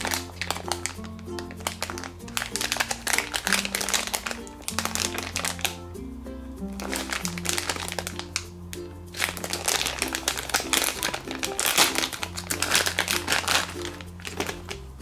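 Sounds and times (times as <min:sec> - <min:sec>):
plastic bag crinkling: 0:00.0 - 0:05.8, 0:06.8 - 0:08.4, 0:09.1 - 0:15.0.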